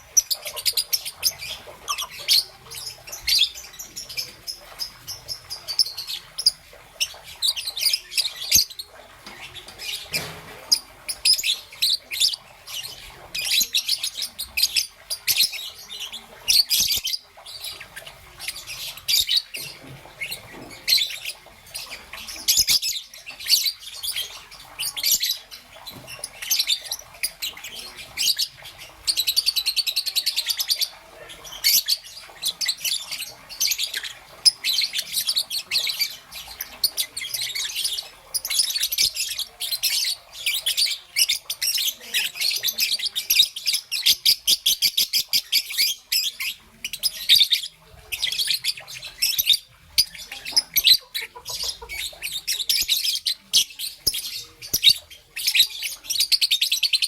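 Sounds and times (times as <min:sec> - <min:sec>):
lovebird chirping and trilling: 0:00.0 - 0:57.0.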